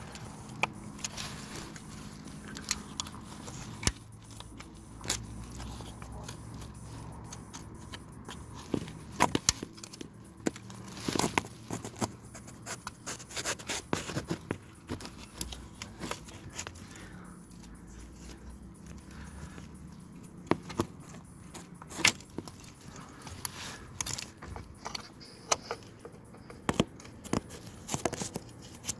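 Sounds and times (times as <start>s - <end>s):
plastic connector handled: 0.0s - 28.9s
screwdriver clicking and scraping: 0.0s - 28.9s.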